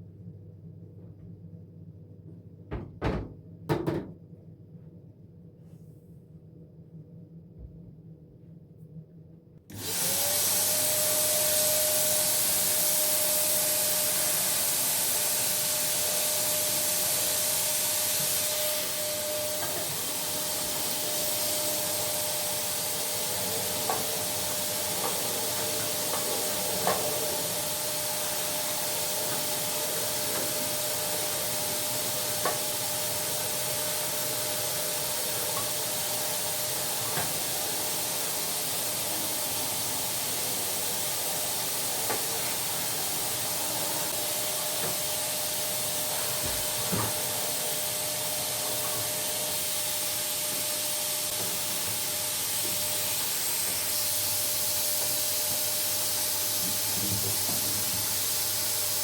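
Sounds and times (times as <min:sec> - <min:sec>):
electric appliance motor humming: 0:09.7 - 0:59.0.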